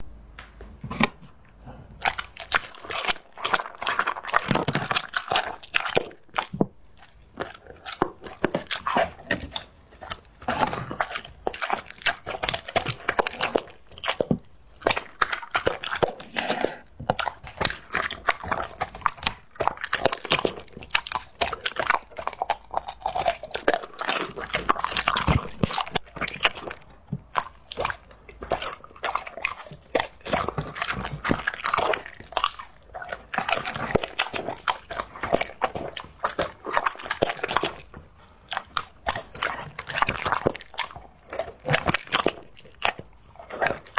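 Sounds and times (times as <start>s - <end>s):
dog chewing bone: 0.6s - 43.9s.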